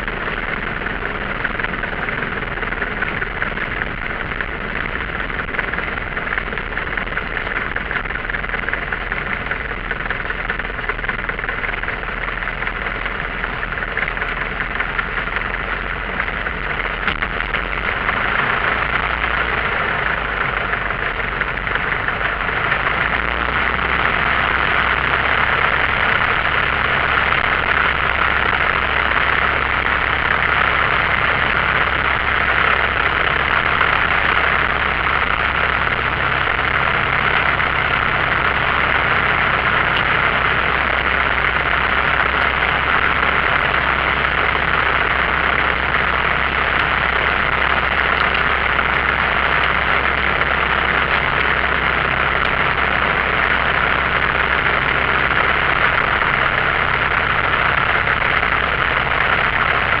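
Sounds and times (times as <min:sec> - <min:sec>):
light aircraft engine droning: 0:00.0 - 1:00.0.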